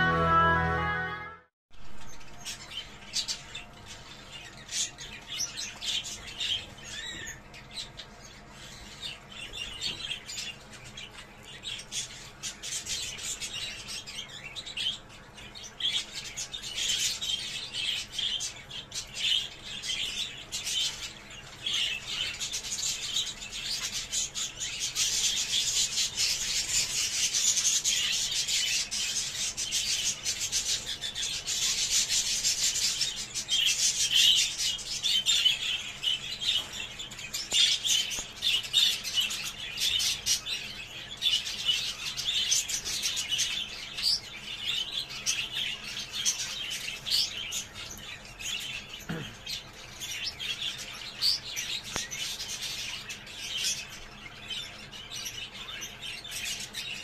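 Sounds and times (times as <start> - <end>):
budgerigars chattering and warbling: 2.6 - 57.0.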